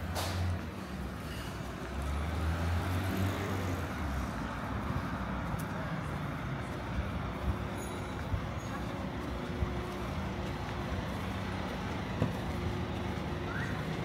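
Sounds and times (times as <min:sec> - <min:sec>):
traffic noise: 0:00.0 - 0:14.0
vehicle engine rumble: 0:00.0 - 0:14.0.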